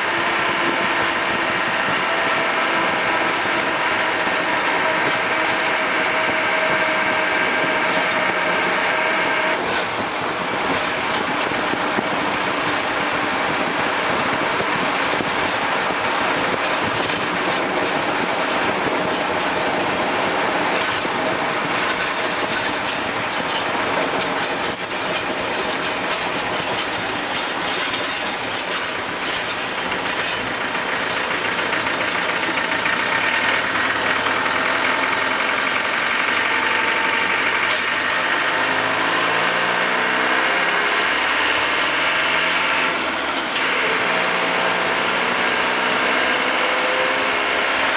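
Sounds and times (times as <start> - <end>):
car engine running: 0.0 - 47.9.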